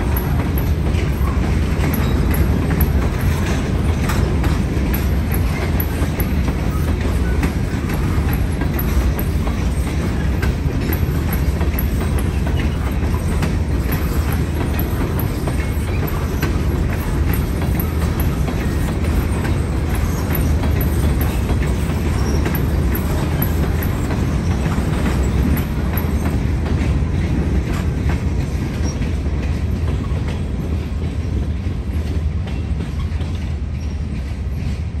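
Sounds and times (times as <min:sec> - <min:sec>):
train wheels rumbling on rail: 0:00.0 - 0:35.0
wheels clicking over rail joints: 0:00.0 - 0:35.0.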